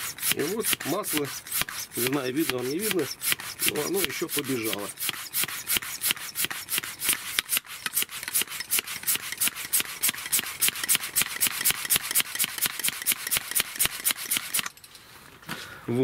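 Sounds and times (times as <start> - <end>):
hand pump rasping strokes: 0.0 - 14.8.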